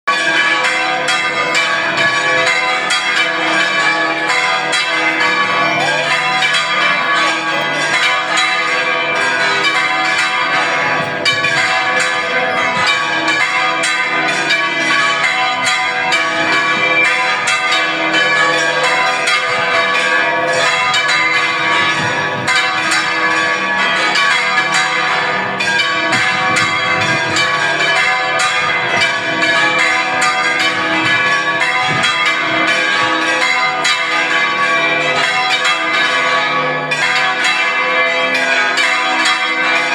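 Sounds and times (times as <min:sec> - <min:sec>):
church bells ringing: 0:00.1 - 0:39.9.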